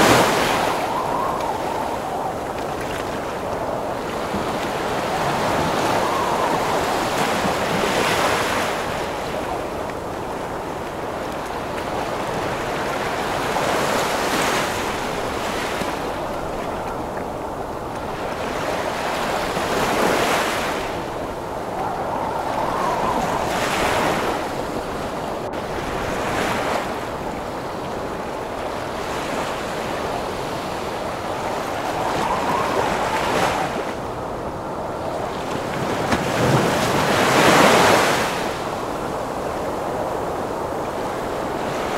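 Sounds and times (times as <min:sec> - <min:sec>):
gusting wind howling: 0:00.0 - 0:41.9
ocean waves crashing: 0:00.0 - 0:41.9.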